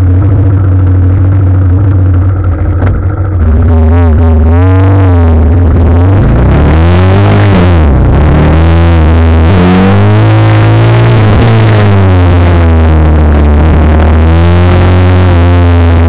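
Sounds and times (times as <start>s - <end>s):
electronic music heavy bass: 0.0s - 16.0s.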